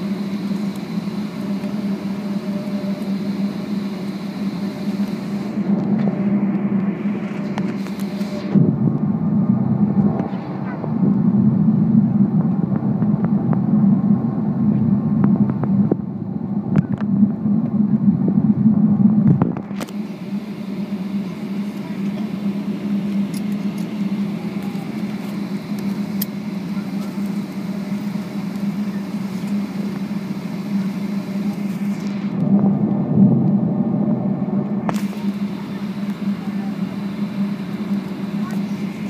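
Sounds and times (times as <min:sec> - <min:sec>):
aircraft cabin engine hum: 0:00.0 - 0:39.0.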